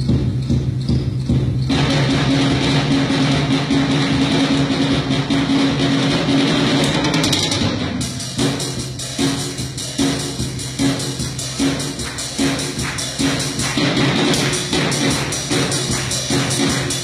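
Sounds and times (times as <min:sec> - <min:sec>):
acoustic drum kit: 0:00.0 - 0:17.0.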